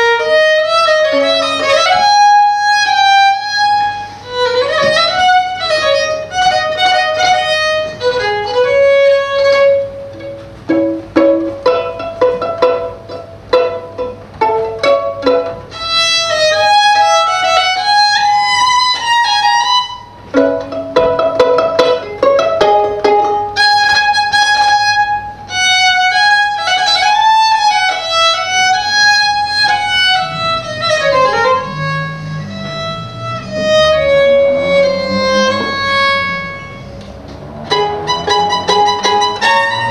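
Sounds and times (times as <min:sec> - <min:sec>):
solo violin playing: 0:00.0 - 0:39.9.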